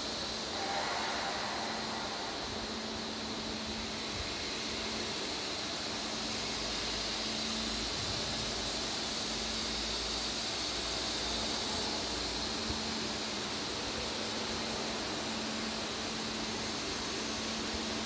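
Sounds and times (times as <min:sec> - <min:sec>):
ventilation hiss: 0:00.0 - 0:18.0.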